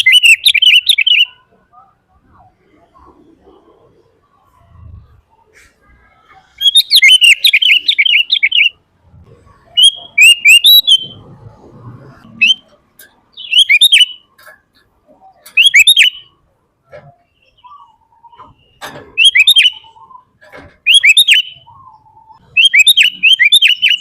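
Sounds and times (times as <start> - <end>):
bird singing rapid chattering phrases: 0.0 - 5.6, 6.2 - 8.9, 9.5 - 11.3, 12.3 - 24.0.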